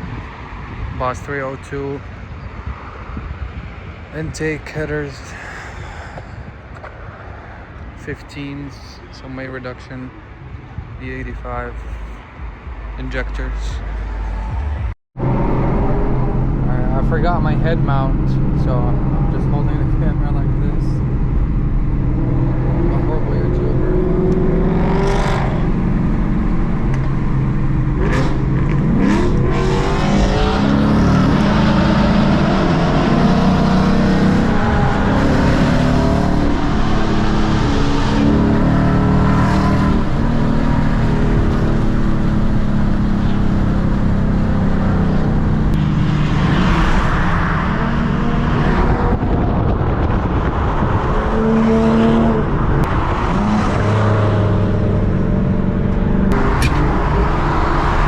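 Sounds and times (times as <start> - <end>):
car engine revving: 0.0 - 2.0, 4.0 - 6.2, 11.0 - 58.0.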